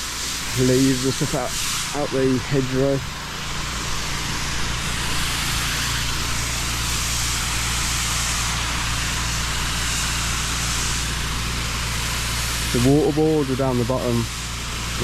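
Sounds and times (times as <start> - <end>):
pressure washer engine drone: 0.0 - 15.0
water jet hissing: 0.0 - 15.0.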